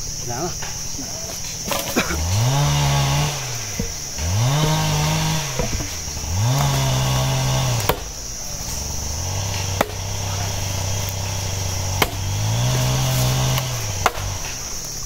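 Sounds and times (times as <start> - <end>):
insects buzzing: 0.0 - 15.0
chainsaw engine revving: 1.6 - 15.0.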